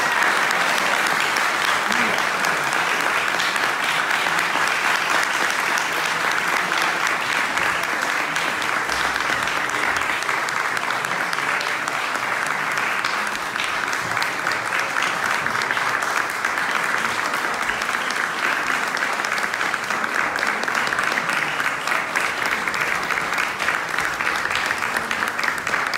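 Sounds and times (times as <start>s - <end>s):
audience applauding: 0.0s - 25.9s.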